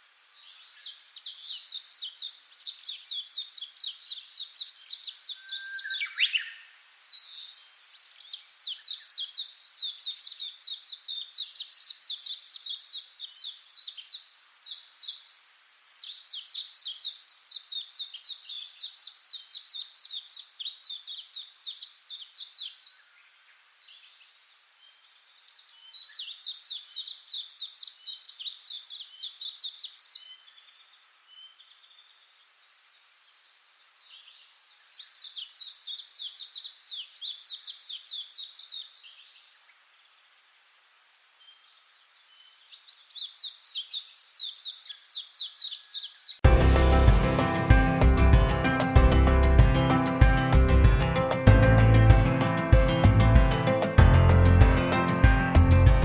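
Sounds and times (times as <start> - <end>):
small birds chirping trills: 0.0 - 40.5, 41.1 - 56.0.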